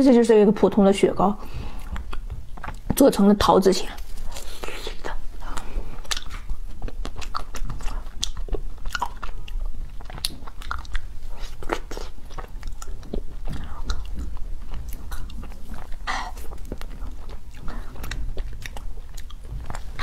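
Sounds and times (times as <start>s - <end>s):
chewing frozen ice cream bar: 1.8s - 20.0s.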